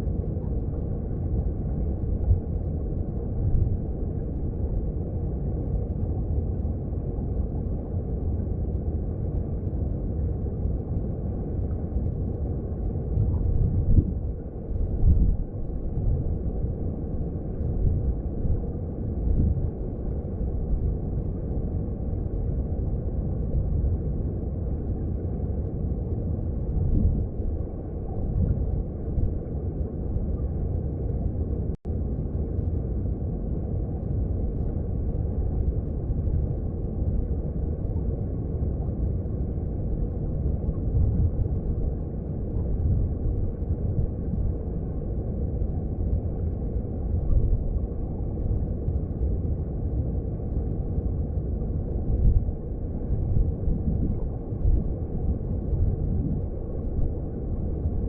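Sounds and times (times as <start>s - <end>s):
muffled underwater stream rumble: 0.0s - 58.0s.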